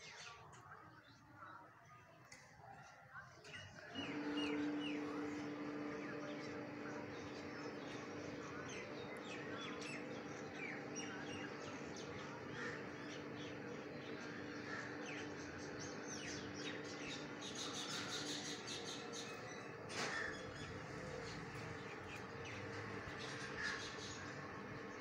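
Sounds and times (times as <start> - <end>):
rapid high-pitched bird chatter: 3.4 - 25.0
small birds chirping: 3.5 - 25.0
steady low hum: 3.8 - 25.0.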